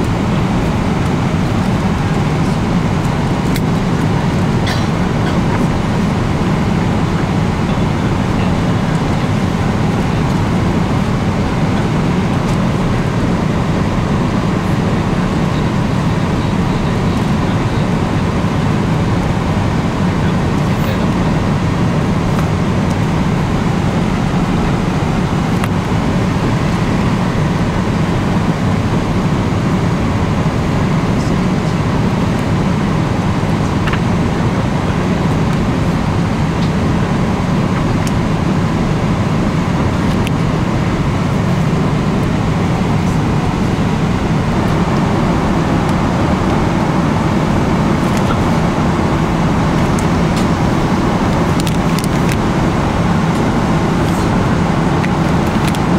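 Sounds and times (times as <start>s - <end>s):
airliner cabin noise: 0.0s - 55.9s.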